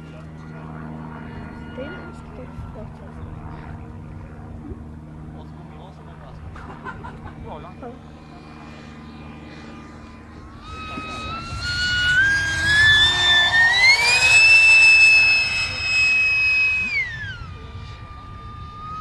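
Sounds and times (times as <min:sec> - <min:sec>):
model jet fan whining: 0:00.0 - 0:19.0.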